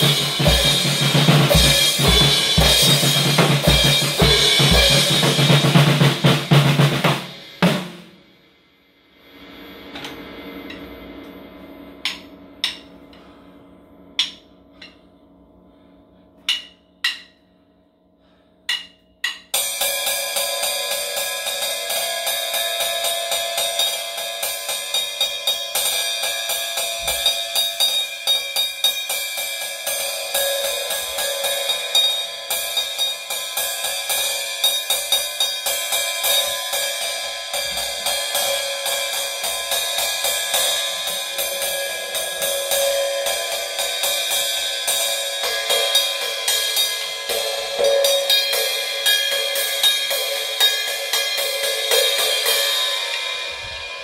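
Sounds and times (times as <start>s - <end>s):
ringing cymbal wash: 0.0s - 54.0s.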